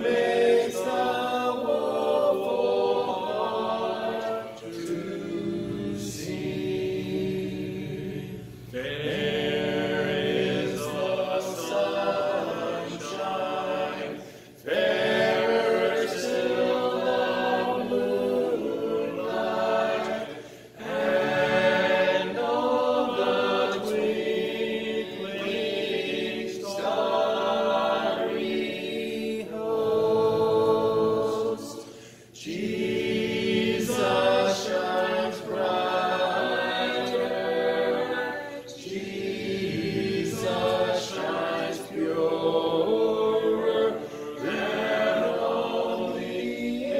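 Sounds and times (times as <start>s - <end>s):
group singing a hymn a cappella: 0.0s - 46.9s.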